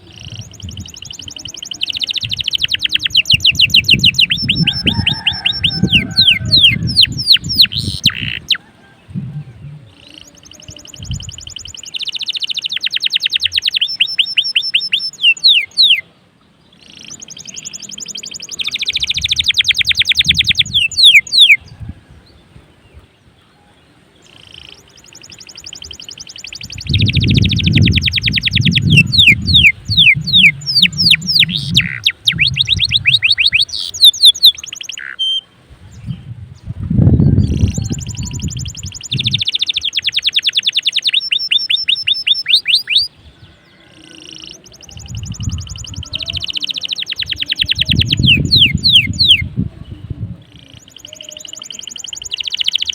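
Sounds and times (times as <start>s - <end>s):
canary singing trills: 0.0s - 16.1s, 16.7s - 21.8s, 24.2s - 36.3s, 36.9s - 52.9s.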